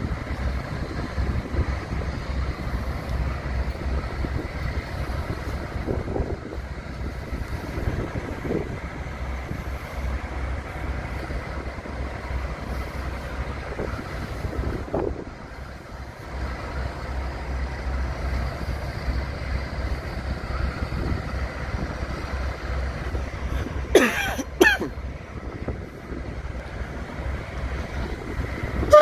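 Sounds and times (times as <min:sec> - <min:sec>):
diesel locomotive engines rumbling: 0:00.0 - 0:29.0.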